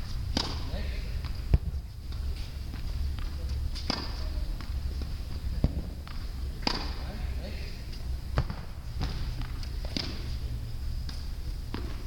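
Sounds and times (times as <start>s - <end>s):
steady low hum: 0.0s - 12.0s
tennis balls bouncing and hit: 0.0s - 12.0s.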